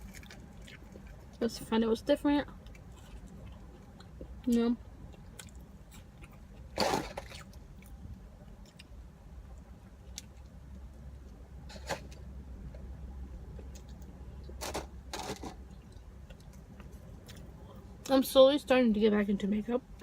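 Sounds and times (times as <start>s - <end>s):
crackling eating noises: 0.0s - 18.2s
low hum inside car: 0.0s - 20.0s.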